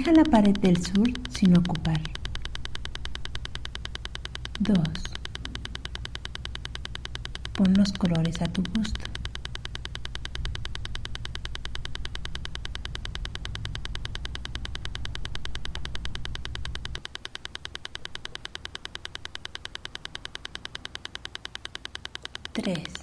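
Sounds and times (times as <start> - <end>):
rapid steady pulsing: 0.0 - 23.0.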